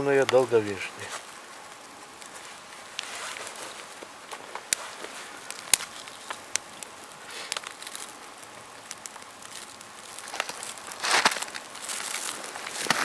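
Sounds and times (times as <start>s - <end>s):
soft fire hiss: 0.0s - 13.0s
twigs crackling in fire: 0.0s - 13.0s.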